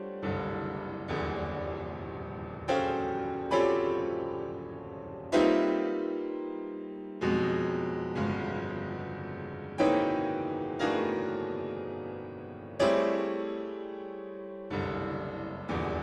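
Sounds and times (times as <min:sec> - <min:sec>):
slow solo piano chords: 0:00.0 - 0:16.0.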